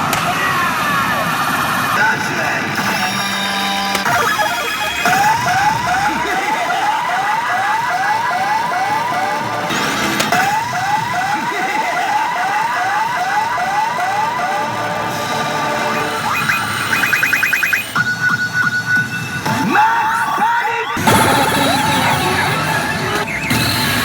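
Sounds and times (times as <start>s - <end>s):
electronic siren-like whoops: 3.0s - 24.0s.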